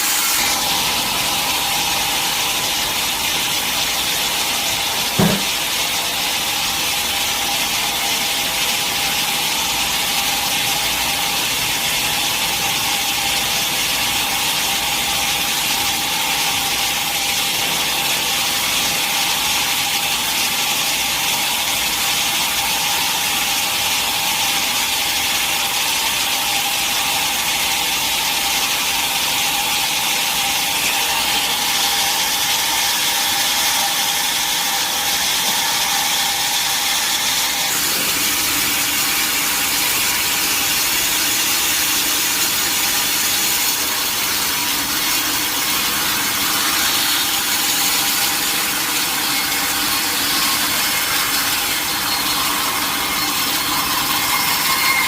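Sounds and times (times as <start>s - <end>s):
saw blade cutting through log: 0.0s - 55.0s.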